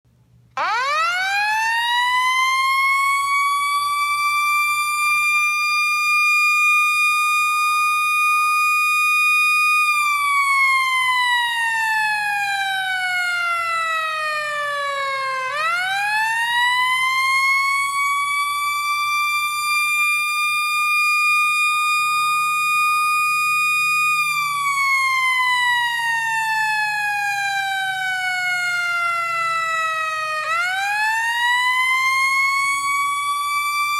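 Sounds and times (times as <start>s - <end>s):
fire truck siren wailing: 0.5s - 33.9s.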